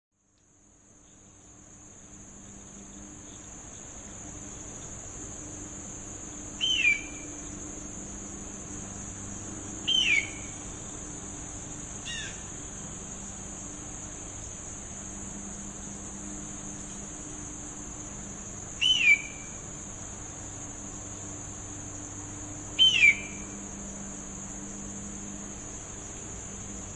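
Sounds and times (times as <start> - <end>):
insects droning: 0.2 - 26.9.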